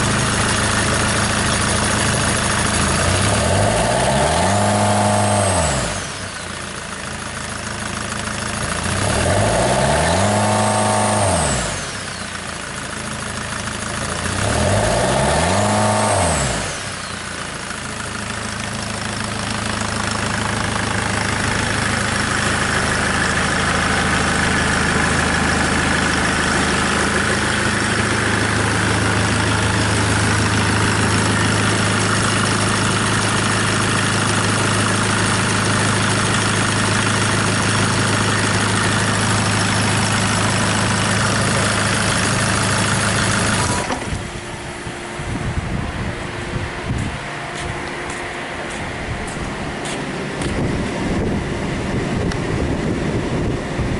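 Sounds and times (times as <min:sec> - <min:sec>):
diesel engine revving and idling: 0:00.0 - 0:53.9.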